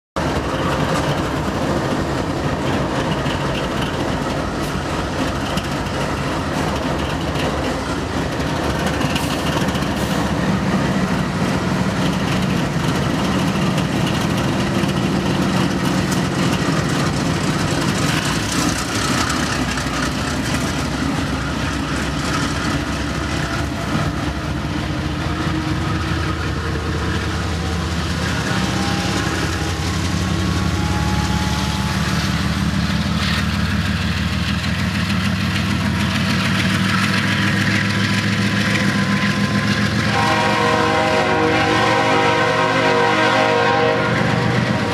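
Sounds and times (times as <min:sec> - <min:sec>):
diesel locomotives passing: 0:00.2 - 0:44.9.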